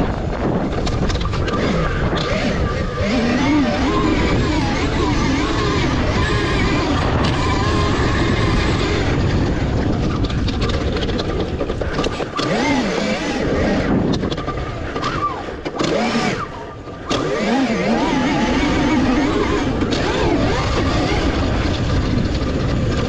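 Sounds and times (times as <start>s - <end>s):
electric motor whine: 0.0s - 23.0s
steady rushing noise: 0.0s - 23.0s.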